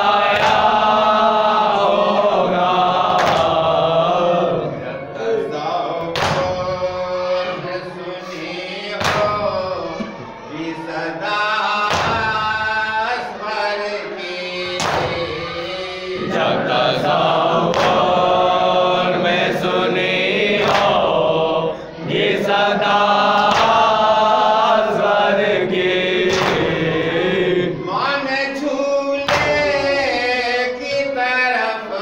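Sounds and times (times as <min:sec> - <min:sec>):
men chanting: 0:00.0 - 0:32.0.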